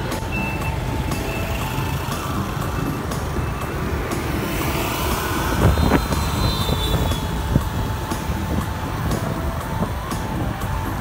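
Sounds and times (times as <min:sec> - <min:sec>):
motorbike engines rumbling: 0:00.0 - 0:11.0
road noise: 0:00.0 - 0:11.0.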